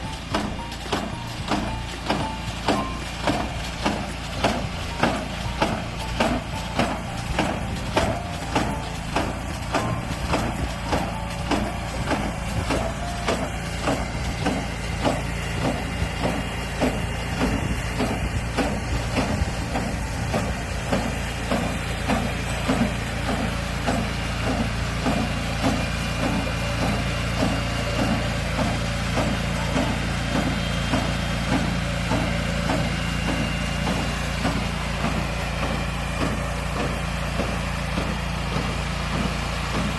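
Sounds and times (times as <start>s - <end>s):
harvesting machine engine hum: 0.0s - 39.9s
regular mechanical knocking: 0.0s - 39.9s.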